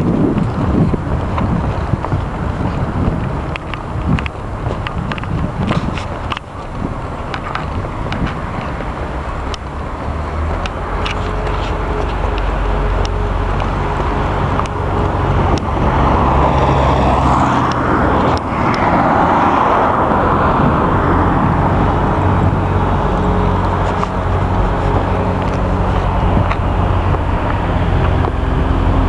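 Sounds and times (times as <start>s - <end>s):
car engine running: 0.0s - 29.0s
tyre and road noise: 0.0s - 29.0s.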